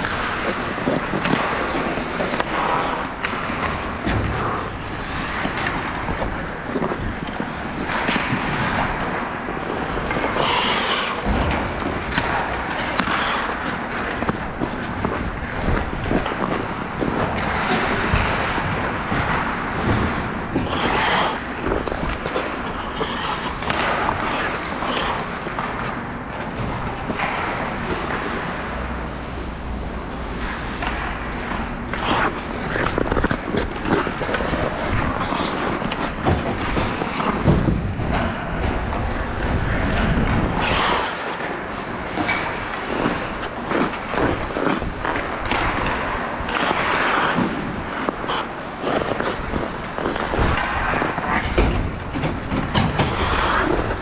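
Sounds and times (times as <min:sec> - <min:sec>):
hockey sticks and puck clacking: 0:00.0 - 0:54.0
skate blades scraping on ice: 0:00.0 - 0:54.0.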